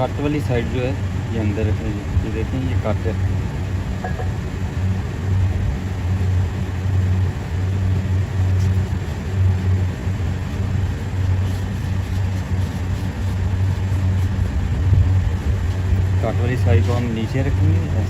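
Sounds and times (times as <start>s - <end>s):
machine running drone: 0.0s - 18.0s.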